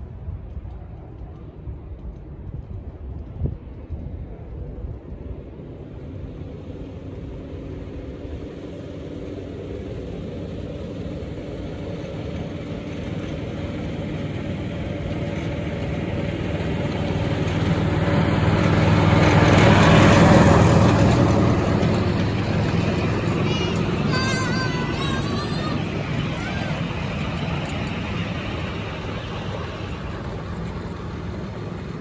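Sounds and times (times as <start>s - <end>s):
diesel locomotive engine running: 0.0s - 32.0s.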